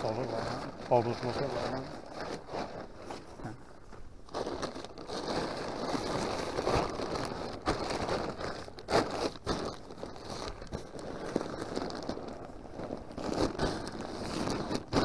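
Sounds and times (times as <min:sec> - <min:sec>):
tent fabric crinkling and rustling: 0:00.0 - 0:15.0.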